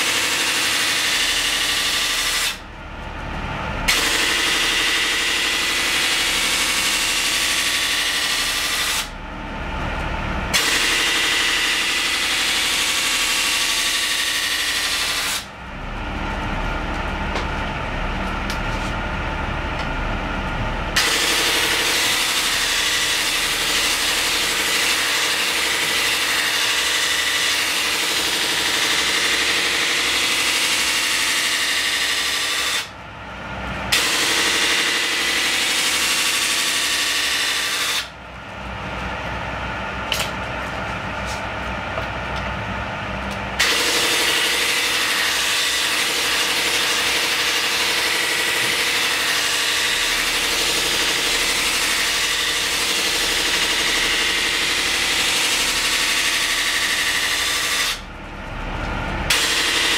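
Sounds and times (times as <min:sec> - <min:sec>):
sharpening machine humming: 0:00.0 - 0:02.6, 0:03.9 - 0:09.2, 0:10.4 - 0:33.0, 0:33.9 - 0:38.3, 0:40.0 - 0:59.9.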